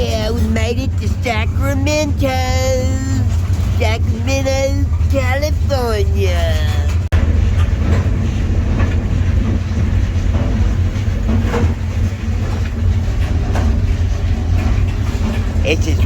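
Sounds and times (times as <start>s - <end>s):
faint train clacks: 0.0s - 16.0s
freight train rumbling: 0.0s - 16.0s.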